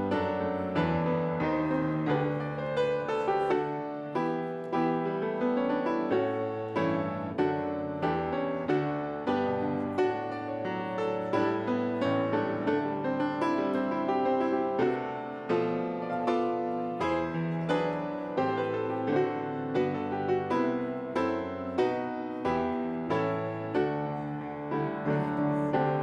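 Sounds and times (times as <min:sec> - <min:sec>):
piano playing chords: 0:00.0 - 0:26.0.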